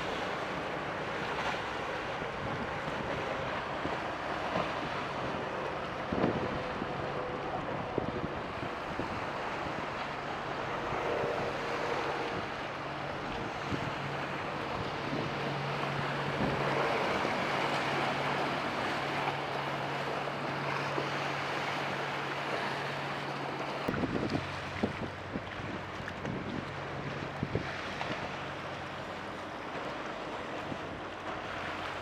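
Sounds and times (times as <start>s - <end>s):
wind buffeting microphone: 0.0s - 22.8s, 23.6s - 32.0s
boat engines humming: 0.0s - 32.0s
waves breaking: 0.0s - 32.0s.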